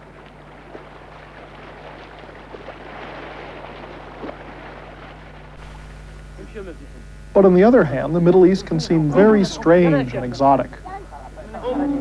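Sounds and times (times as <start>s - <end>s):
low electrical hum: 0.0s - 12.0s
sea waves washing: 0.0s - 12.0s.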